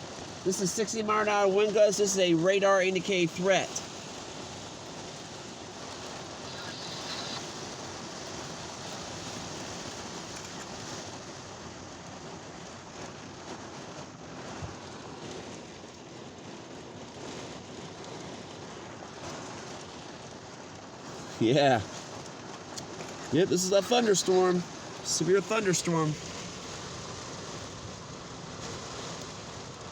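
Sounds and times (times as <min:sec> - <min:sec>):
rain falling on a car: 0:00.0 - 0:29.9.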